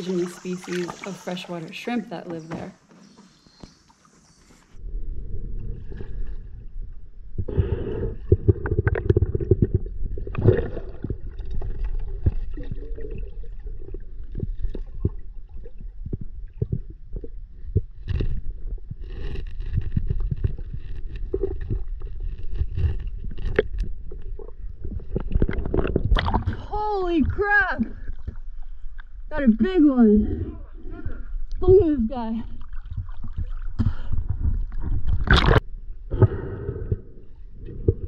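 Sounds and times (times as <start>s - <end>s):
muffled underwater water rush: 0.0s - 2.2s, 3.0s - 38.0s.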